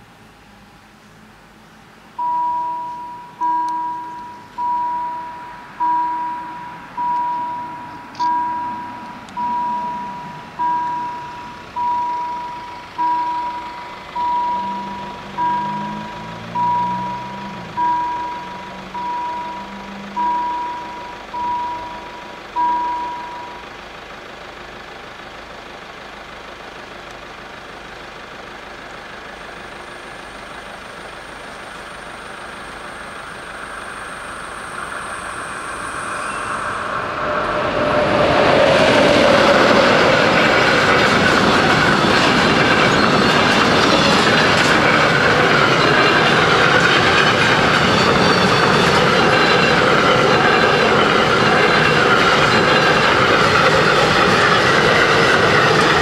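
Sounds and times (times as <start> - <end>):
level-crossing warning bell: 2.2 - 24.5, 29.4 - 56.0.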